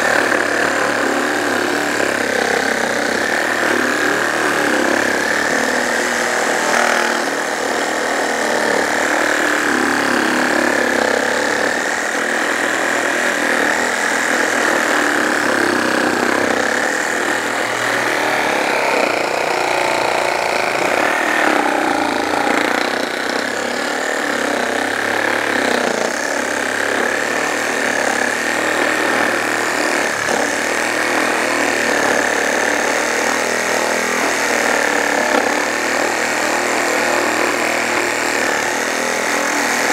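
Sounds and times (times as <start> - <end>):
reciprocating saw motor whine: 0.0 - 39.9
saw blade rasping wood: 0.0 - 39.9.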